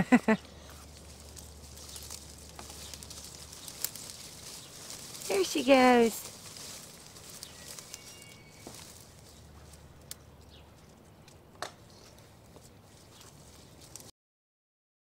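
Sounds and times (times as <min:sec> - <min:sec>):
rustling and crackling of leaves: 0:00.0 - 0:14.1
stems snapping: 0:00.4 - 0:14.1.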